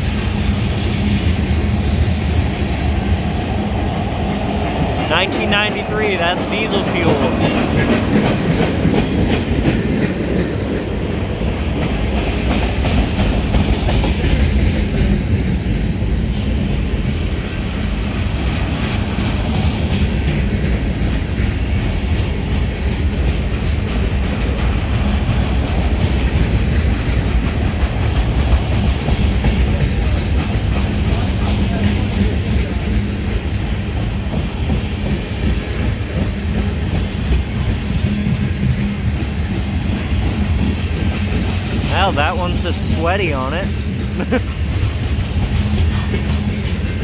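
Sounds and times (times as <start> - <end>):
freight train rumble: 0.0 - 47.0.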